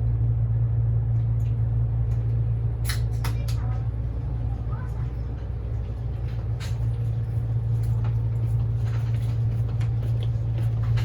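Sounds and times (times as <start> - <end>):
train running drone: 0.0 - 11.0.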